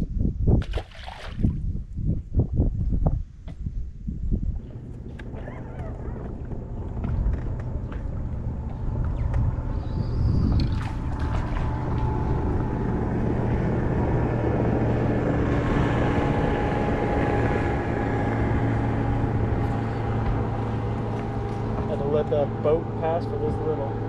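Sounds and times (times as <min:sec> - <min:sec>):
motorboat engine passing: 0:04.5 - 0:24.0.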